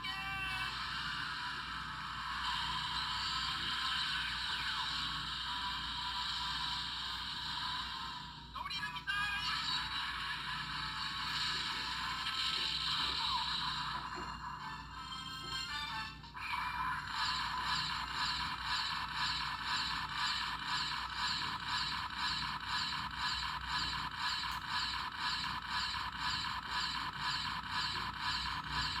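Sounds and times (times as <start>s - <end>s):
toy robot mechanical pulsing: 0.0s - 29.0s.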